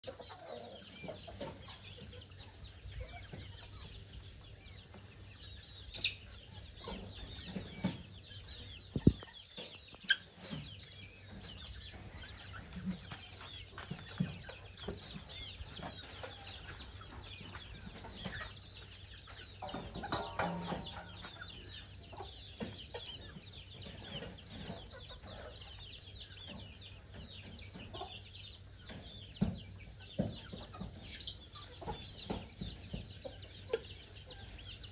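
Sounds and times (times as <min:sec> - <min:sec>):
chicks peeping: 0:00.0 - 0:34.9
hen clucking: 0:00.0 - 0:34.9.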